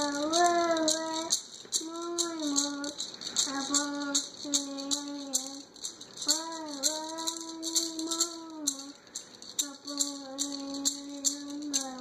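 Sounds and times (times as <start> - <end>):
boy singing: 0.0 - 9.0, 9.6 - 12.0
toy maraca shaking: 0.0 - 12.0.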